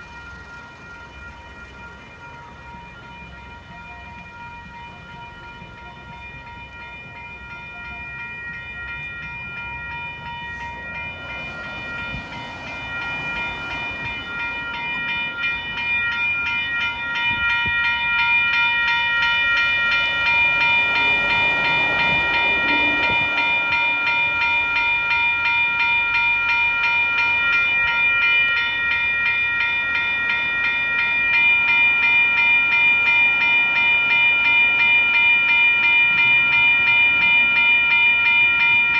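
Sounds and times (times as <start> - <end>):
level-crossing bells ringing: 0.0 - 38.9
train passing: 0.0 - 38.9.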